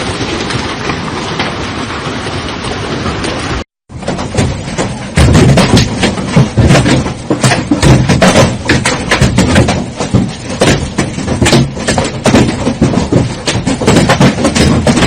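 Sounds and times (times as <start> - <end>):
hailstones clattering: 0.0 - 15.0.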